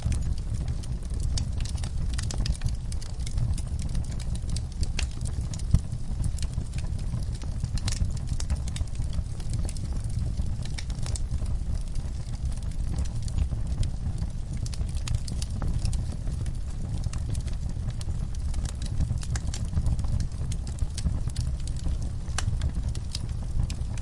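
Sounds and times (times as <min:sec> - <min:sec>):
burning wood crackling: 0:00.0 - 0:24.0
fire rumbling: 0:00.0 - 0:24.0.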